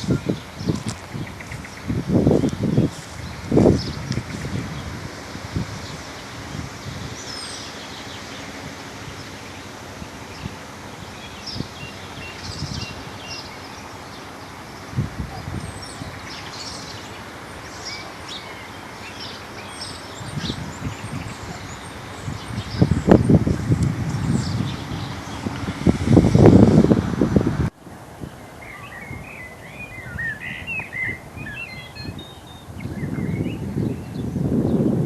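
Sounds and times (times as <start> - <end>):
small birds chirping: 0.0 - 26.6, 28.2 - 35.0
outdoor hiss: 0.0 - 32.7.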